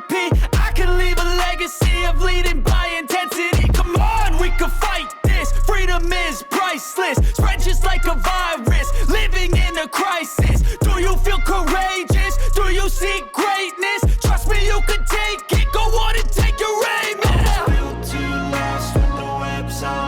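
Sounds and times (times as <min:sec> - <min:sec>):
hip-hop music with bass beat: 0:00.0 - 0:20.0
vocal line: 0:00.0 - 0:20.0.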